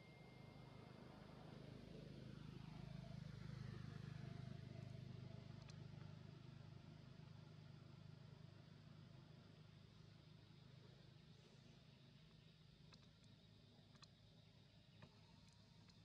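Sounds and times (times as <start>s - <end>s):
faint low engine hum: 0.0s - 16.0s.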